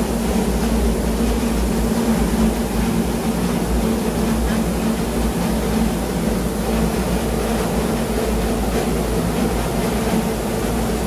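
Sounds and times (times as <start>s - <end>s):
rice milling machine drone: 0.0s - 11.0s.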